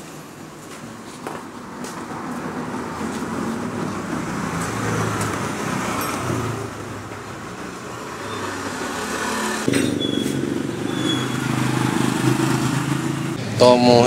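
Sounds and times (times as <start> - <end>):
vehicle engine droning: 1.8 - 14.0.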